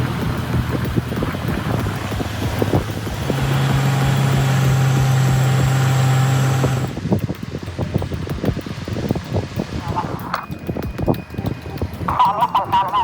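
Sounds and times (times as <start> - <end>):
truck diesel engines under load: 0.0 - 13.0.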